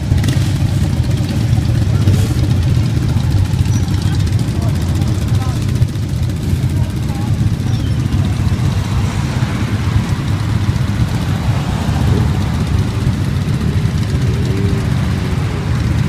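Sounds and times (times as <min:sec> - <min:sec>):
many motorcycle engines running: 0:00.0 - 0:16.0.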